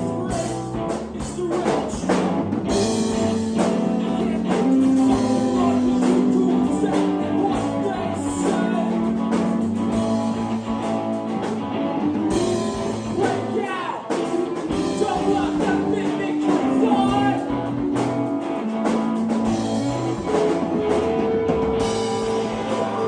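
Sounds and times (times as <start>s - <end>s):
person singing: 0.0s - 10.4s, 12.3s - 23.0s
live rock band playing: 0.0s - 23.0s.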